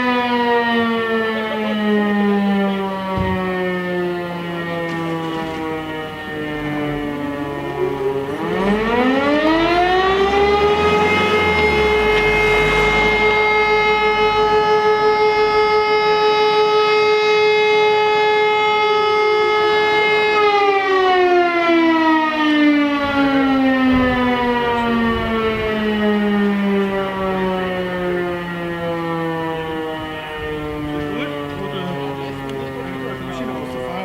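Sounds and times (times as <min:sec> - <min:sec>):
siren winding down: 0:00.0 - 0:33.9.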